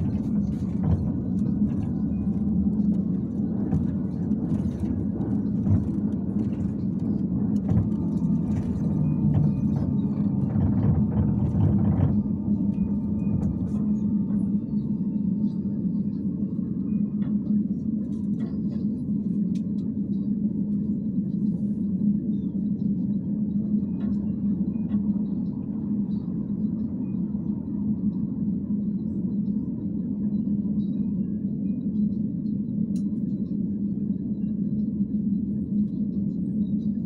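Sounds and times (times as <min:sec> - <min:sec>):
constant hum: 0:00.0 - 0:37.0
trolleybus rumble: 0:00.0 - 0:37.0.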